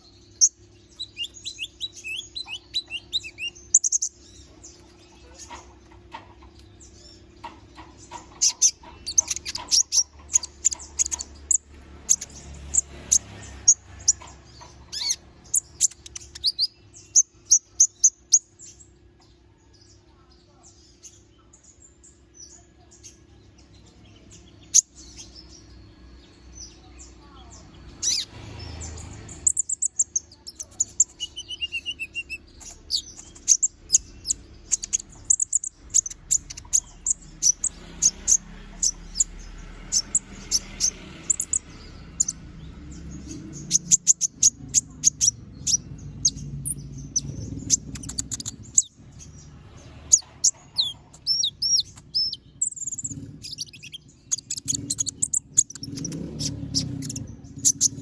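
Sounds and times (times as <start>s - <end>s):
sunbird chirps and trills: 0.0s - 58.0s.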